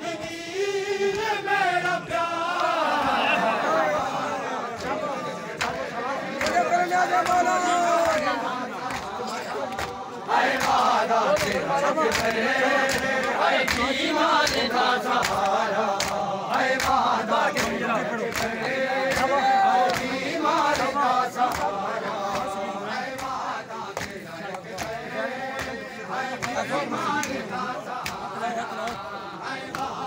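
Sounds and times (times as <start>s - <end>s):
crowd of men chanting: 0.0s - 30.0s
hand slaps on bare chests: 5.5s - 30.0s.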